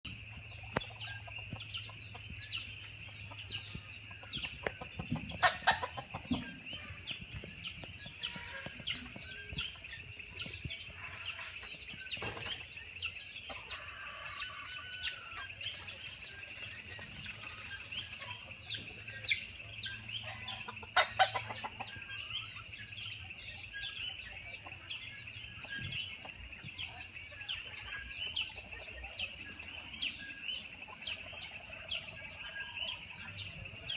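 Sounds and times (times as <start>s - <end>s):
chick peeping: 0.1s - 33.9s.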